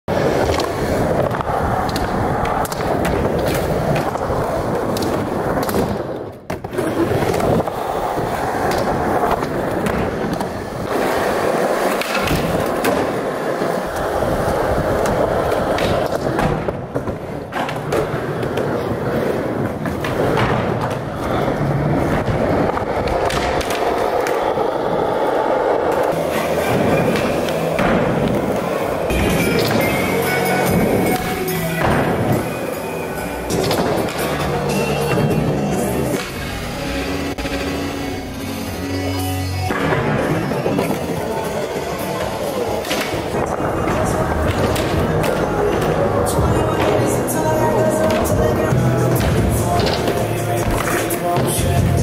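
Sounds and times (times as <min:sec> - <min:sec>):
skateboard clacking: 0:00.1 - 0:38.8, 0:39.7 - 0:52.0
skateboard wheels rolling: 0:00.1 - 0:52.0.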